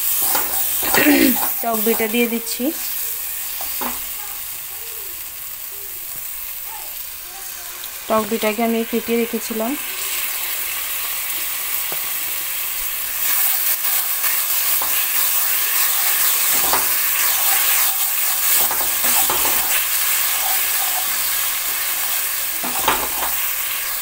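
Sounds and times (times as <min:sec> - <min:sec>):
masala sizzling in hot oil: 0:00.0 - 0:24.0.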